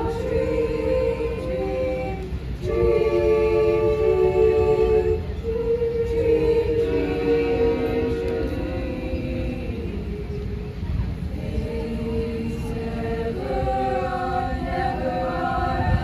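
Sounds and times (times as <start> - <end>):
choir singing held chords: 0.0 - 16.0
steady low rumble: 0.0 - 16.0.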